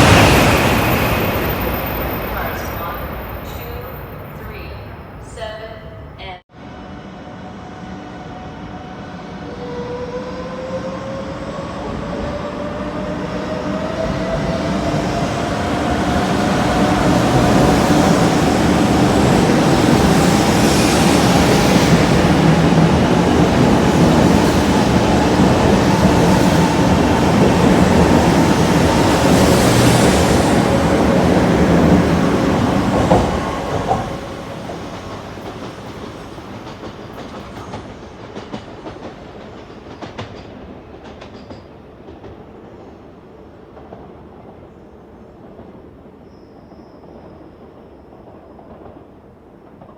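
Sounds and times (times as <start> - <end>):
train wheel and running noise: 0.0 - 6.4, 10.9 - 44.8.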